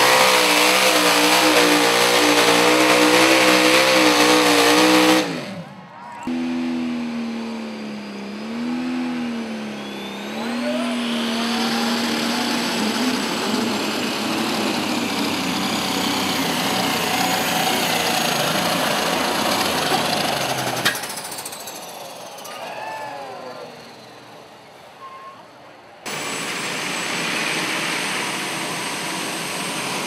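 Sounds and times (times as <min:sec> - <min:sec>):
tractor engine revving: 0:00.0 - 0:25.0, 0:26.0 - 0:30.0.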